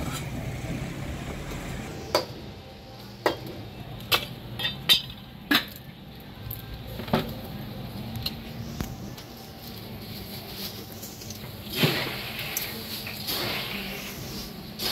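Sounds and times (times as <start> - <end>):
street noise: 0.0 - 14.9.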